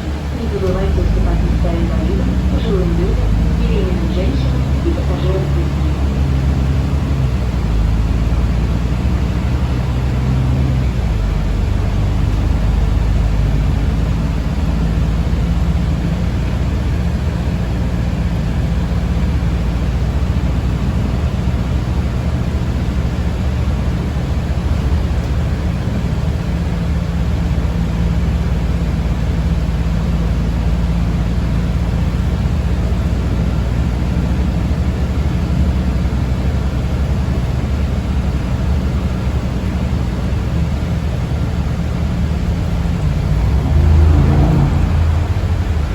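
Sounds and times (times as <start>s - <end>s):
bus engine rumble and hum: 0.0s - 45.9s
road noise: 0.0s - 45.9s.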